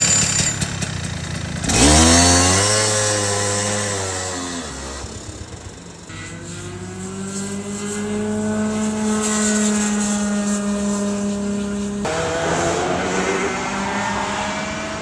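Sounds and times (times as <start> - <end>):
go-kart engine at full throttle: 0.0 - 15.0.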